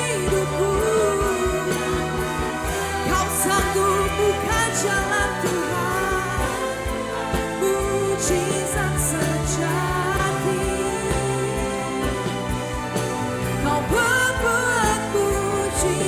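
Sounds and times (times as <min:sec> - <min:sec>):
steady drum beat: 0:00.0 - 0:16.0
worship band playing: 0:00.0 - 0:16.0.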